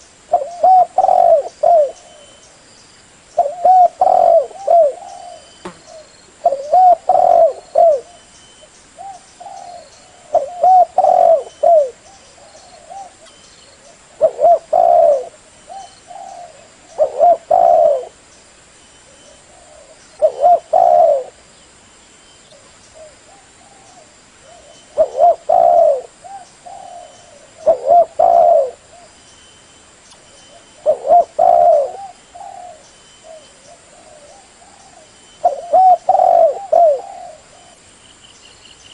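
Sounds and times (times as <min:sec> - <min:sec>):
dove cooing: 0:00.0 - 0:02.4, 0:03.4 - 0:08.2, 0:09.0 - 0:18.2, 0:19.1 - 0:21.4, 0:22.5 - 0:29.1, 0:30.4 - 0:37.8.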